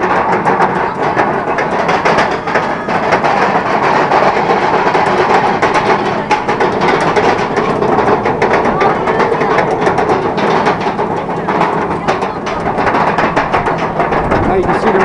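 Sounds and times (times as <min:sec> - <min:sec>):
roller coaster chain lift clatter: 0:00.0 - 0:15.0.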